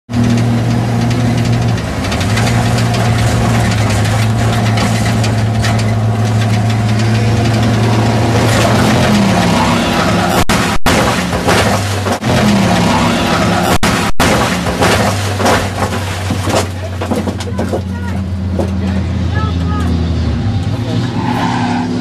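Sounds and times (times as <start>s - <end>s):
race car engine running hard: 0.1s - 22.0s
road and track noise: 0.1s - 22.0s.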